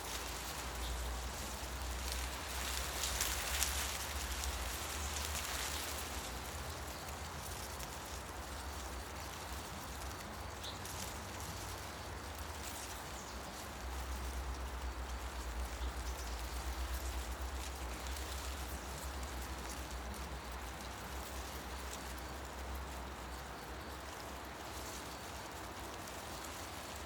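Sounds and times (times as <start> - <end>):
leaves rustling: 0.0 - 27.0.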